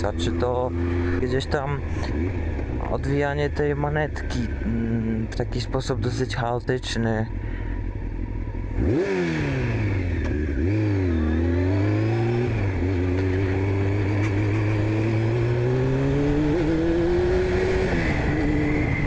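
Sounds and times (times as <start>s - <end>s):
motorcycle engine revving: 0.0s - 6.1s, 7.2s - 19.0s.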